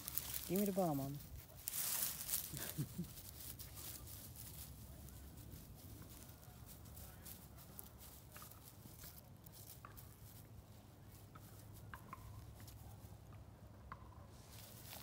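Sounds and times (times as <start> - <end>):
puppies rustling over dry leaves: 0.0 - 13.4, 14.3 - 15.0.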